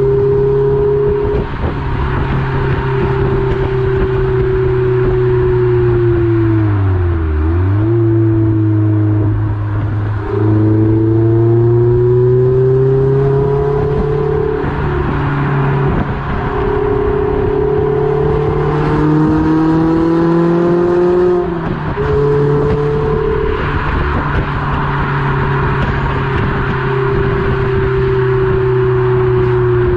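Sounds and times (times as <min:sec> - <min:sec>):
car engine pulling under load: 0:00.0 - 0:29.9.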